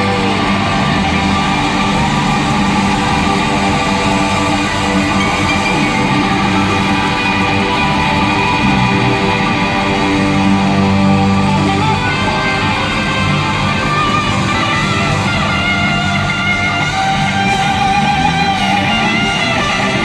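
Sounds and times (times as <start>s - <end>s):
electric guitars: 0.0s - 20.0s
live rock band playing: 0.0s - 20.0s.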